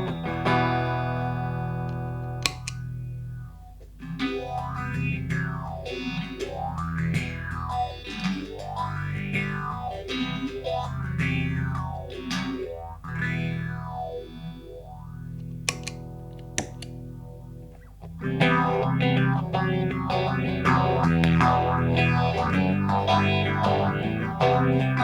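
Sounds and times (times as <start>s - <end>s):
electric guitar with phaser: 0.0s - 25.0s.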